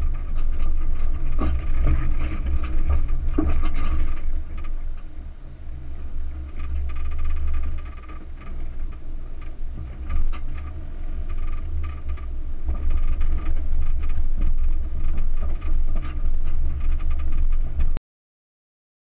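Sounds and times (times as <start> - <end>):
rattles and knocks: 0.0 - 5.2, 5.9 - 18.0
vehicle engine rumble: 0.0 - 18.0
wind on microphone: 0.0 - 18.0.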